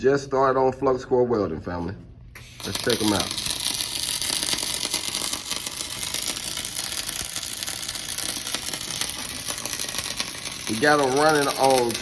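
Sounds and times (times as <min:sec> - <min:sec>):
welding arc crackling: 0:02.4 - 0:12.0.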